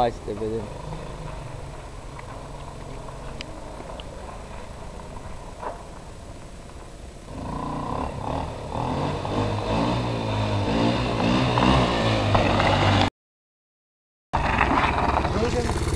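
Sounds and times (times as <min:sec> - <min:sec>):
atv engine revving: 0:00.0 - 0:05.9, 0:07.2 - 0:13.1, 0:14.4 - 0:15.9.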